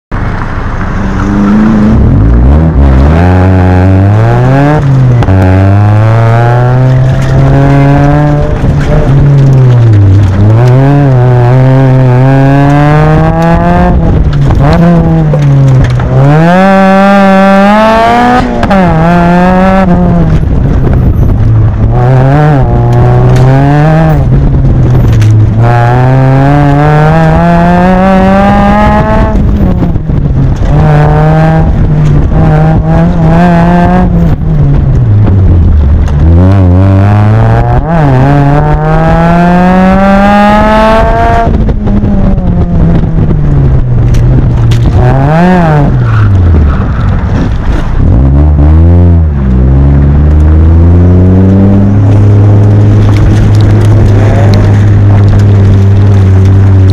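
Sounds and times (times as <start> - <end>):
car engine revving hard: 0.5 - 56.9.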